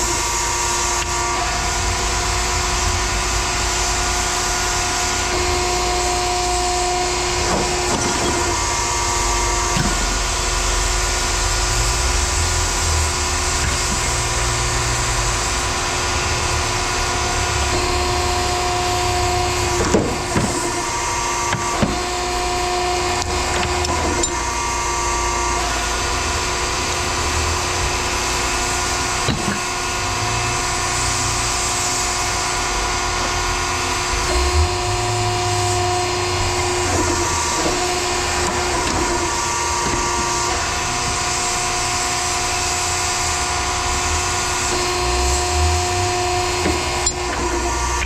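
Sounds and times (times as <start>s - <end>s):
machinery whine over low rumble: 0.0s - 48.0s.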